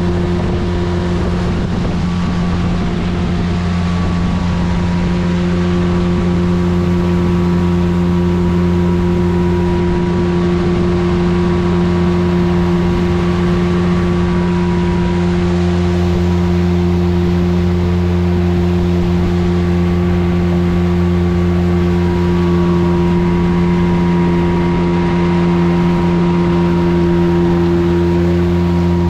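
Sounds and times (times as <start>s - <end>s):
speedboat engine drone: 0.0s - 29.0s.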